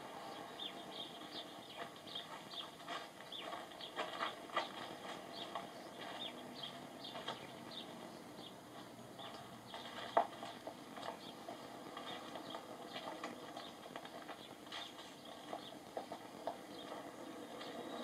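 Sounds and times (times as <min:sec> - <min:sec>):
footsteps on pavement: 0:00.6 - 0:18.0.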